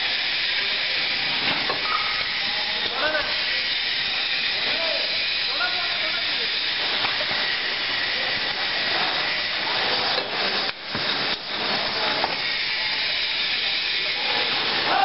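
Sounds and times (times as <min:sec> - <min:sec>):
conveyor line hissing: 0:00.0 - 0:15.0.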